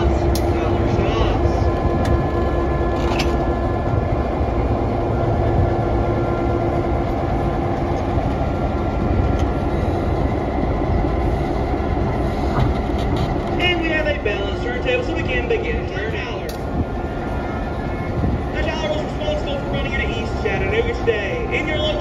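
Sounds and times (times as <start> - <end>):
diesel locomotive engine idling: 0.0 - 22.0.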